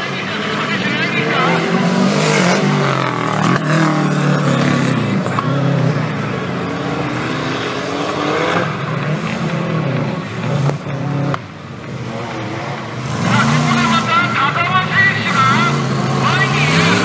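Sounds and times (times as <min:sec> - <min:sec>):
off-road vehicle engines revving: 0:00.0 - 0:17.0.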